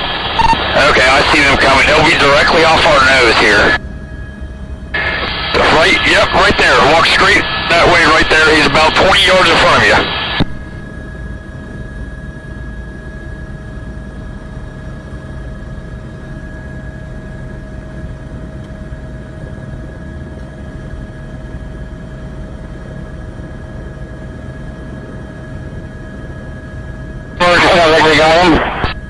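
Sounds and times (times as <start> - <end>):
faint high whine: 0.0 - 29.0
helicopter drone: 0.0 - 29.0.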